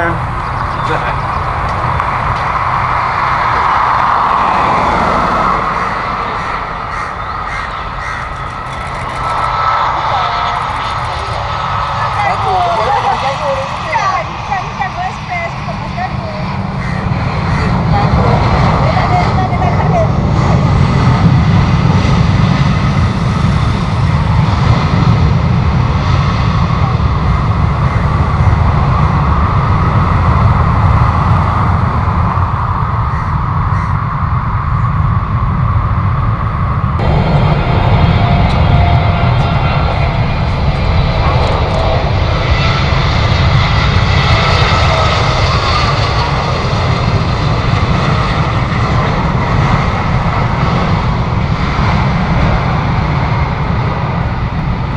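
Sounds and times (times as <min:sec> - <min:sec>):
jet engine high whine: 0:00.0 - 0:54.9
jet engines low rumble: 0:00.0 - 0:54.9.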